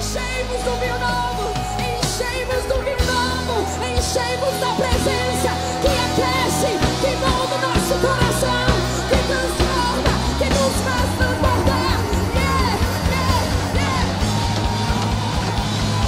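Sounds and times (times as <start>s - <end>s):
drum kit beating: 0.0s - 16.0s
sustained bass notes: 0.0s - 16.0s
voices singing: 0.0s - 16.0s.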